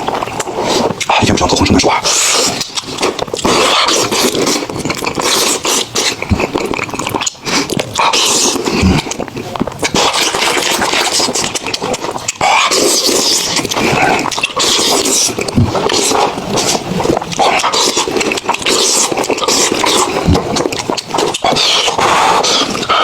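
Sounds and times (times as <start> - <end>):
mouth and lip smacks: 0.0 - 23.0
wet chewing and crunching: 0.0 - 23.0.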